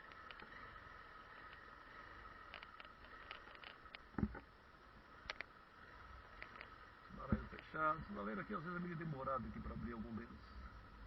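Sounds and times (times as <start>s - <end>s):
muffled motorcycle engine hum: 0.0s - 11.0s.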